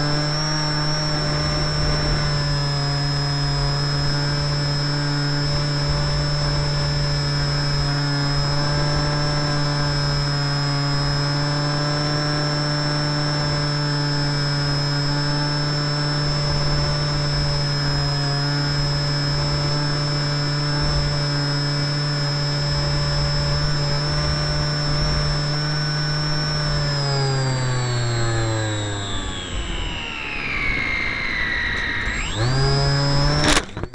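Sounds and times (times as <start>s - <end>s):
model plane motor whine: 0.0s - 33.9s.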